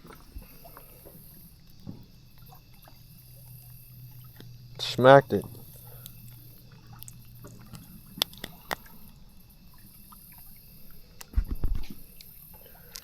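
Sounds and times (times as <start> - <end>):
faint water sounds: 0.0 - 13.0.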